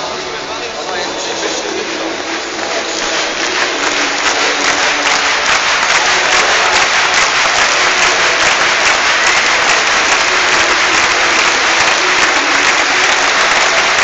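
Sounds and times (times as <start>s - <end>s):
stadium crowd applauding: 0.0s - 14.0s.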